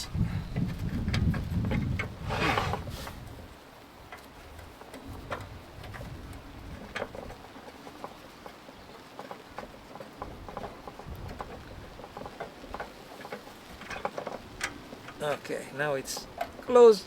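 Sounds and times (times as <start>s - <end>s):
faint rain patter: 0.0s - 17.0s
wind buffeting microphone: 0.0s - 17.0s.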